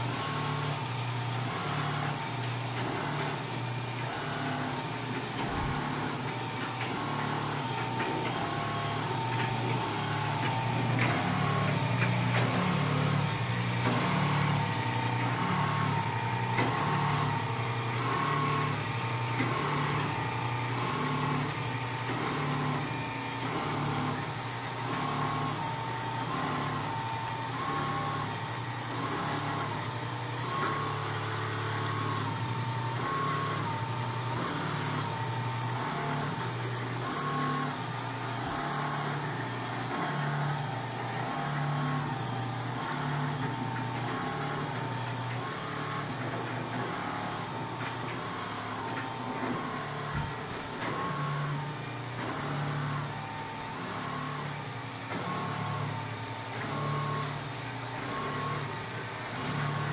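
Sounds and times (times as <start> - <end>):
quilting machine humming: 0.0 - 59.9.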